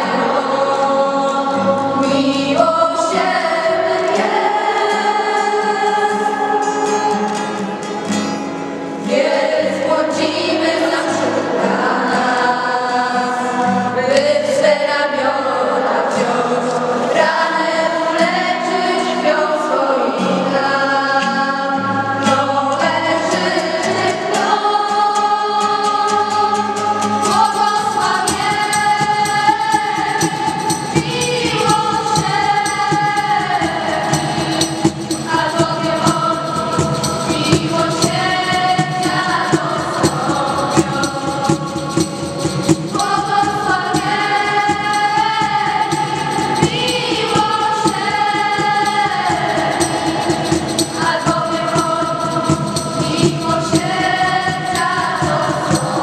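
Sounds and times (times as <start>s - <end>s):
group of young voices singing: 0.0s - 7.8s, 9.0s - 56.0s
strummed acoustic guitar: 0.0s - 56.0s.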